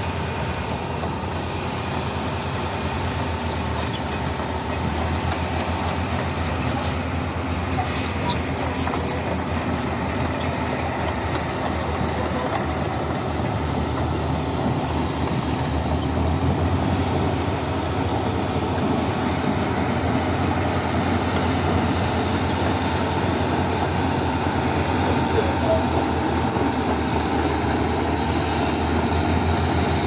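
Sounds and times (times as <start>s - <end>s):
excavator diesel engine running: 0.0s - 30.0s
steel tracks squealing and clattering: 0.1s - 30.0s.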